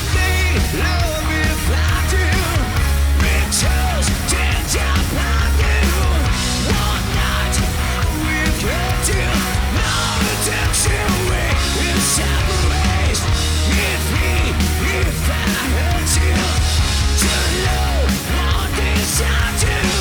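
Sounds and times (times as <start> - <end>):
hard rock band playing: 0.0 - 20.0.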